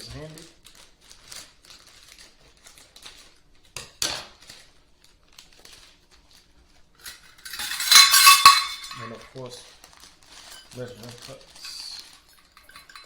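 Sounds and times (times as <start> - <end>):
packaging crinkling: 0.0 - 6.8, 9.0 - 13.0.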